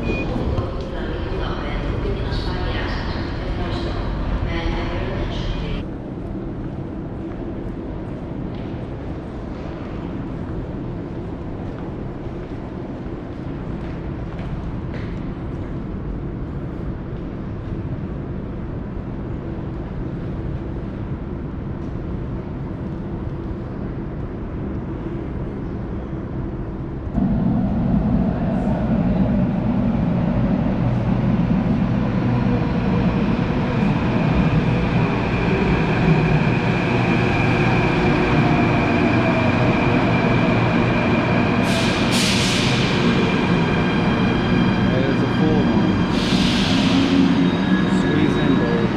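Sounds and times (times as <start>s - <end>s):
electric train rumbling: 0.0s - 48.9s
rising whine of train: 0.0s - 48.9s.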